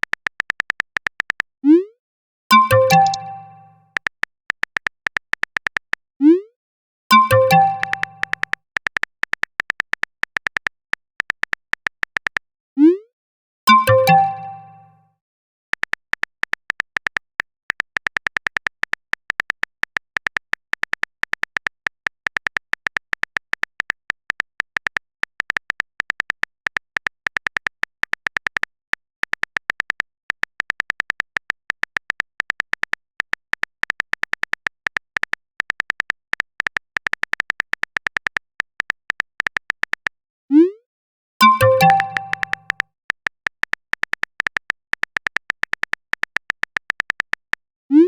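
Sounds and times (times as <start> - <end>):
keyboard typing clicks: 0.0 - 1.5, 2.5 - 6.0, 7.1 - 12.4, 13.7 - 15.0, 15.8 - 40.2, 41.4 - 47.6.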